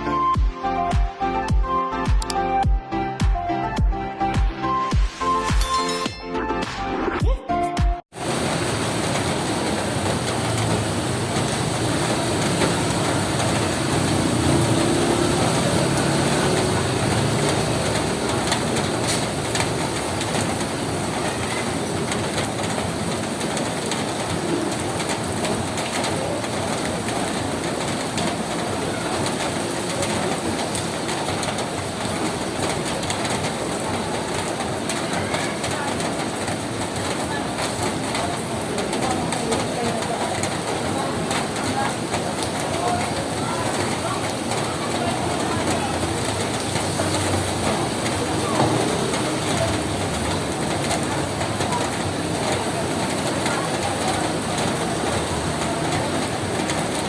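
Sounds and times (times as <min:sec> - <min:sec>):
rain falling on a roof: 0:08.1 - 0:57.0.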